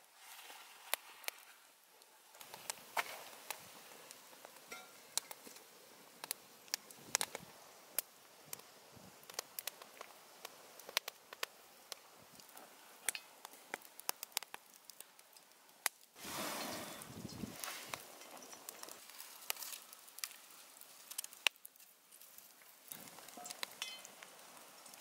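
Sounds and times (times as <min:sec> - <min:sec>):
campfire crackling and popping: 0:00.0 - 0:25.0
faint hiss: 0:00.0 - 0:25.0.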